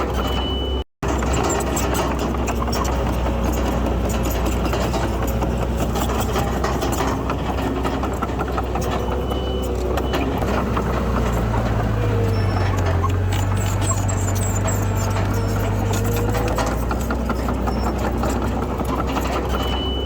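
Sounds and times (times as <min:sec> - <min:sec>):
diesel engine running: 0:00.0 - 0:20.0
small metal clanks and clicks: 0:00.0 - 0:20.0.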